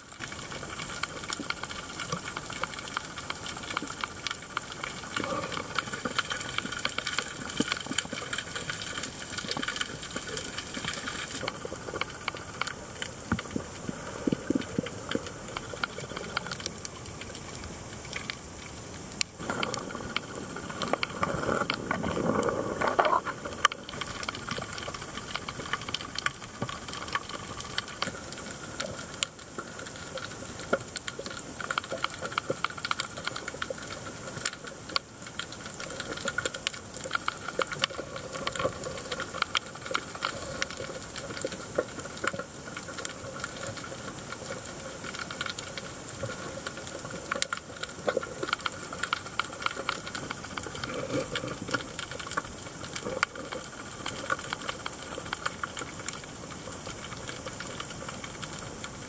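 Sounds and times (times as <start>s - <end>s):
steady hiss: 0.0s - 59.0s
underwater crackle of tiny clicks: 0.0s - 59.0s.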